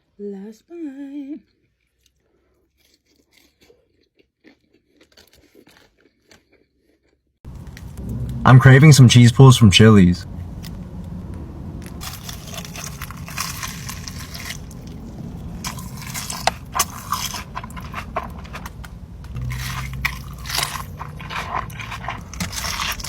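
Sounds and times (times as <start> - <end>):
crunchy chewing: 1.5 - 9.0, 10.2 - 23.0.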